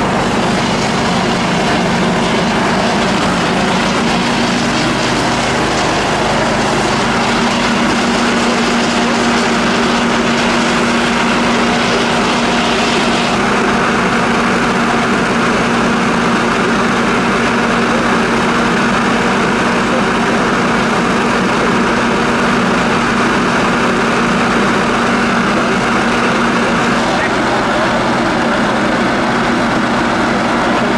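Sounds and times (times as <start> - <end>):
engine running steadily: 0.0 - 30.9.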